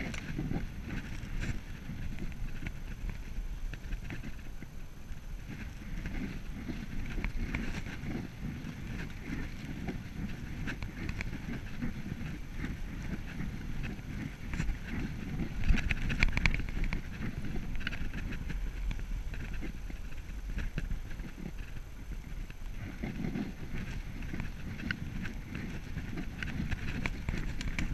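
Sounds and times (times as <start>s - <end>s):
bicycle clicks: 0.0s - 27.9s
bicycle tyre rumble: 0.0s - 27.9s
wind noise on microphone: 0.0s - 27.9s.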